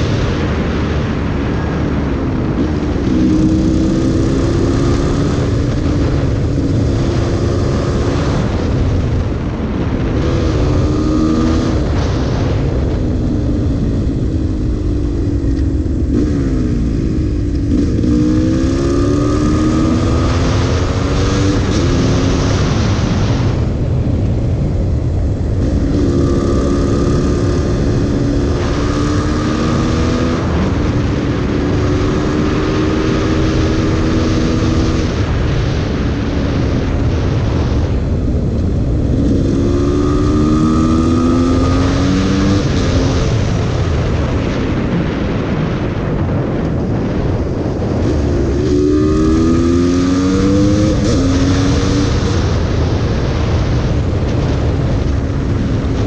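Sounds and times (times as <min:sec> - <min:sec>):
two-stroke motorcycle engine revving: 0:01.2 - 0:23.8, 0:24.8 - 0:56.0.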